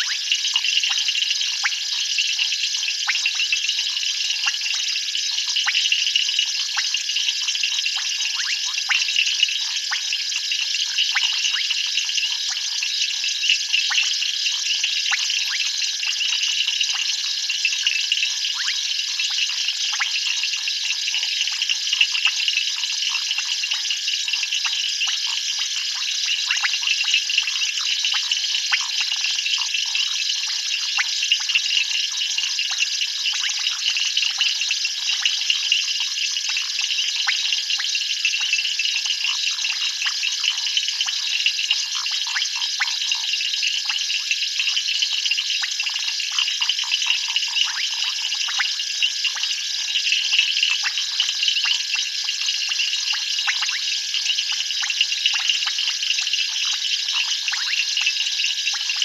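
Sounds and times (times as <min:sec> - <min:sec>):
frogs clicking calls: 0:00.0 - 0:59.0
high-pitched frog trilling: 0:00.0 - 0:59.0.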